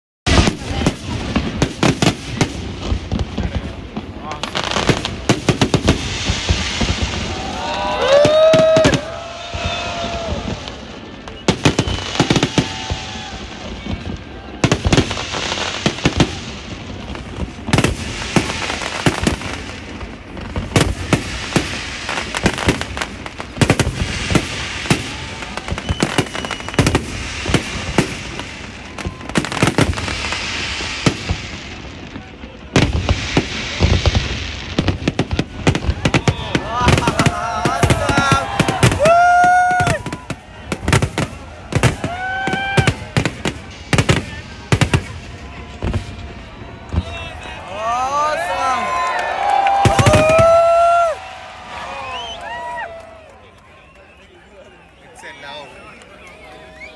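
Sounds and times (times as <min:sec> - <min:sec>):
fireworks bangs and crackling: 0:00.3 - 0:56.9.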